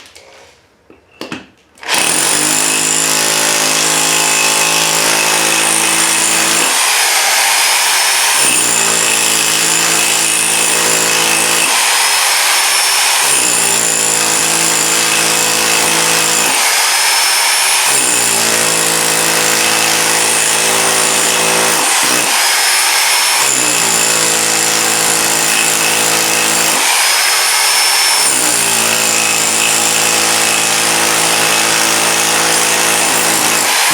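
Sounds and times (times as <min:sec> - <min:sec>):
rotary hammer chiselling concrete: 0:01.8 - 0:33.9.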